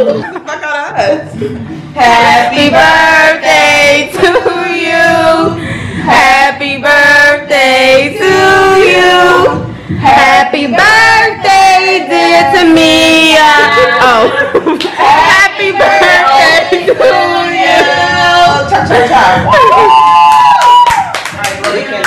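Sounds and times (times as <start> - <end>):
group singing: 1.8 - 19.6.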